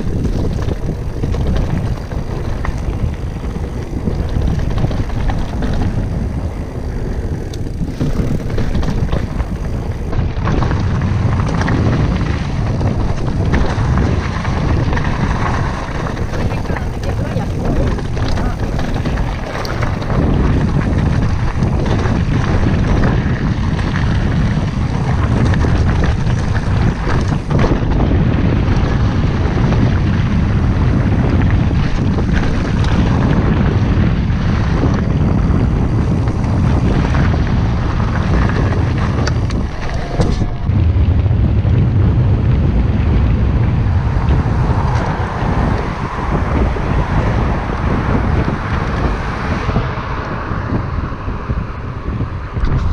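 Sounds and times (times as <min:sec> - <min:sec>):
bike rattling over stones: 0:00.0 - 0:52.9
bike tyre rumble: 0:00.0 - 0:52.9
wind buffeting microphone: 0:00.0 - 0:52.9.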